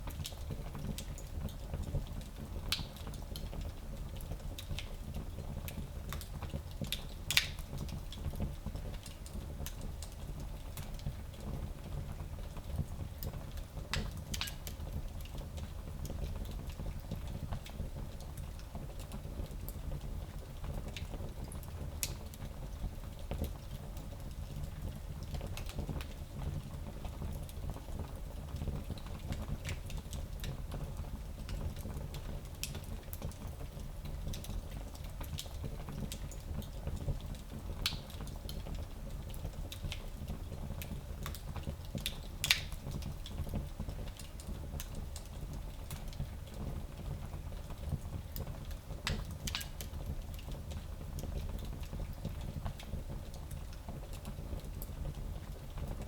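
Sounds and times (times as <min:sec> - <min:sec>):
fire crackling in a fireplace: 0:00.0 - 0:56.0.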